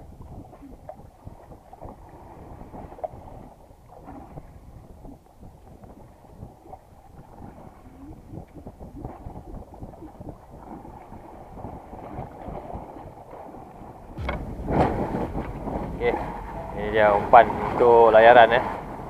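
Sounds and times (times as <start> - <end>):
low wash of sea: 0.0 - 19.0
wind buffeting microphone: 0.0 - 19.0.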